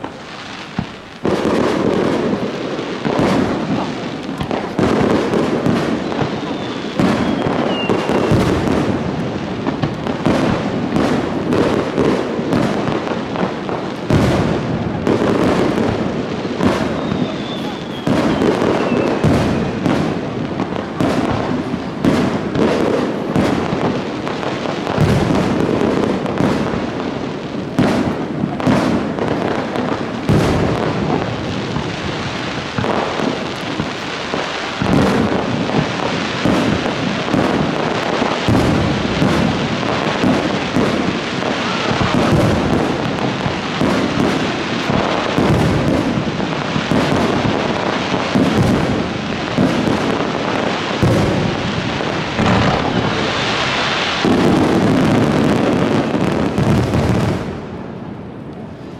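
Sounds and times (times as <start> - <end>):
fireworks crackle: 0.0 - 58.9.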